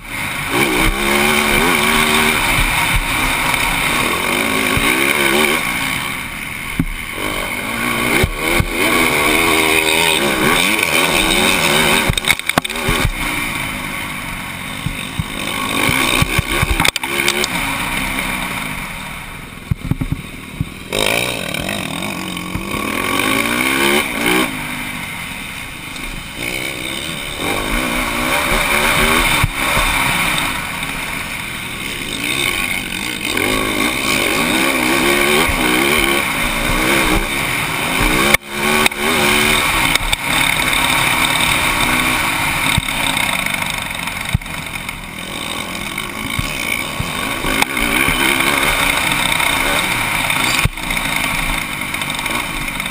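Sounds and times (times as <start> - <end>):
motocross bike engine revving: 0.0 - 52.9
steady rushing hiss: 0.0 - 52.9.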